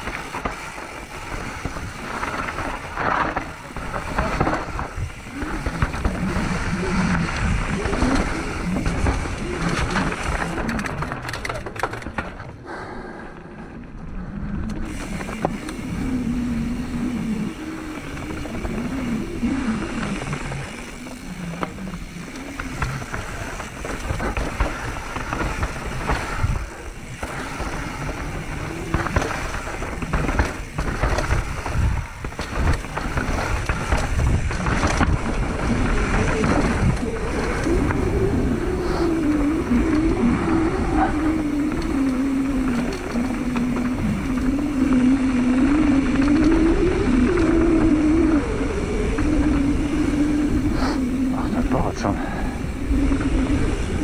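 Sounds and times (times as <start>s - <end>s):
bike rattling and knocking: 0.0s - 12.7s, 14.6s - 52.0s
bike tyres rolling over rocks: 0.0s - 12.7s, 13.7s - 54.0s.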